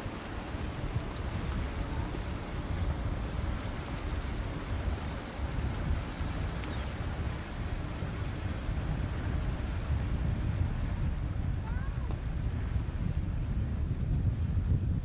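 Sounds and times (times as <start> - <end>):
boat engine drone: 0.0 - 12.2
water along hull: 0.0 - 15.0
wind buffeting microphone: 0.0 - 15.0.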